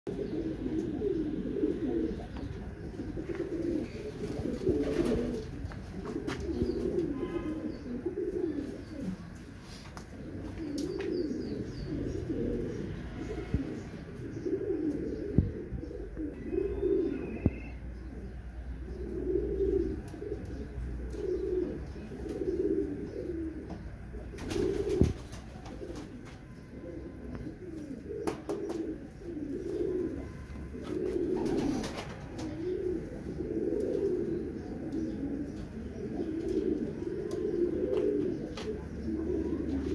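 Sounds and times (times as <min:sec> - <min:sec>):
pigeons cooing: 0:00.1 - 0:39.9.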